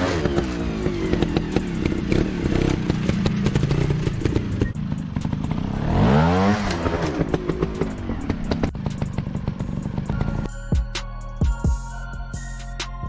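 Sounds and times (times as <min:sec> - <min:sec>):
dirt bike engine revving: 0:00.0 - 0:10.5.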